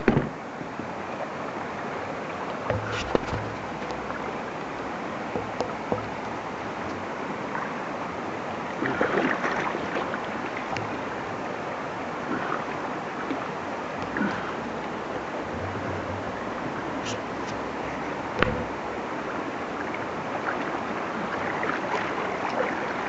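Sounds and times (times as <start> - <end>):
knocks and splashes: 0.0 - 0.5, 2.5 - 7.8, 8.8 - 11.6, 12.2 - 23.0
rushing river rapids: 0.0 - 23.0.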